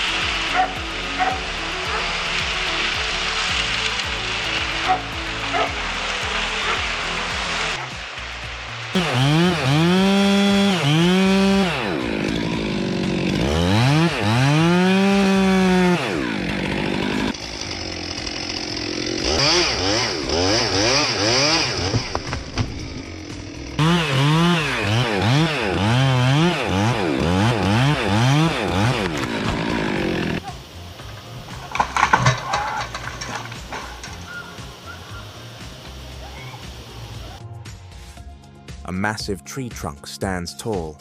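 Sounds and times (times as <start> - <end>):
chainsaw engine revving: 0.0 - 8.0, 8.9 - 37.4.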